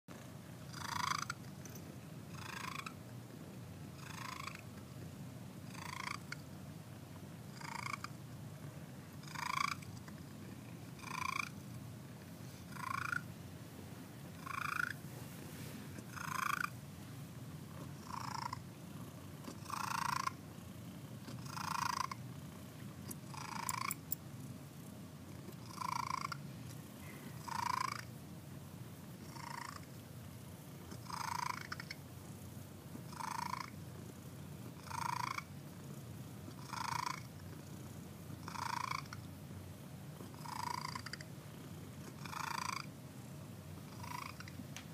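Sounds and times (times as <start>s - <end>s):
cat purring: 0.1s - 28.1s, 29.0s - 39.3s, 40.1s - 44.7s.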